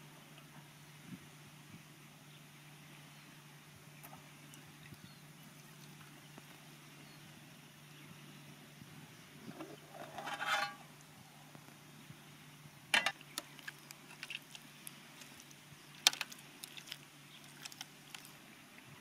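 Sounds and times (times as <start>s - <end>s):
rustle: 0.0s - 19.0s.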